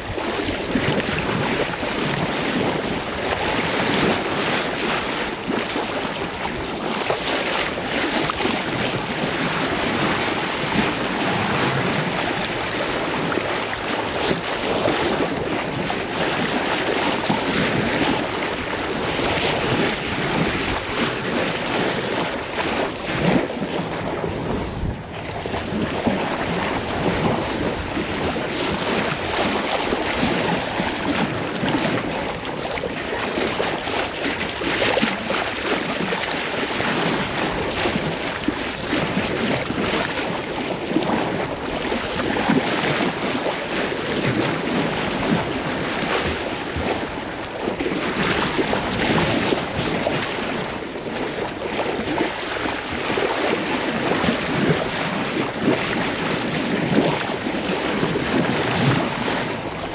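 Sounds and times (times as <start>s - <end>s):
sea water and waves rushing: 0.0s - 59.9s
wind buffeting microphone: 0.0s - 59.9s.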